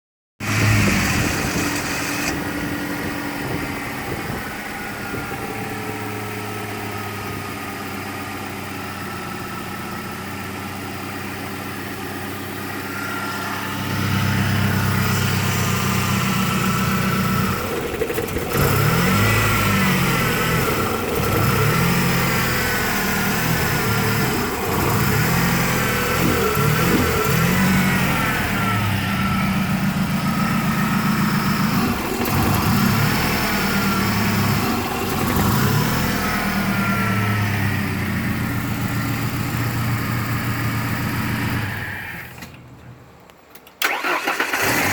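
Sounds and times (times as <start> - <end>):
car engine revving at rough idle: 0.4 - 42.4, 43.8 - 44.9.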